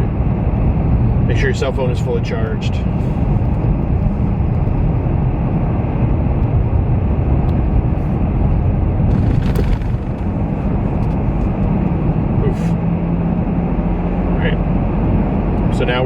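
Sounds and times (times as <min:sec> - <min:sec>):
car driving low rumble: 0:00.0 - 0:16.0.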